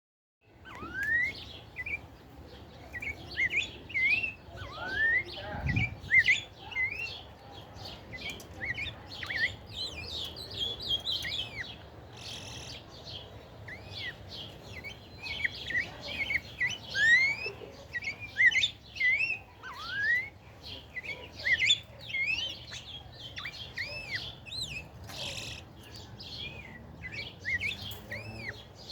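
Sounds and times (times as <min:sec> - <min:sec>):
bird singing whistled notes: 0:00.6 - 0:02.1, 0:02.8 - 0:28.9.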